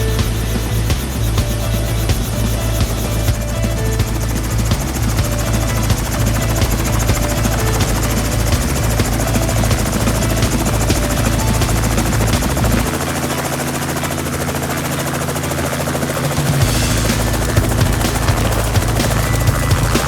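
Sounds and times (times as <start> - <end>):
helicopter drone: 0.0 - 20.0.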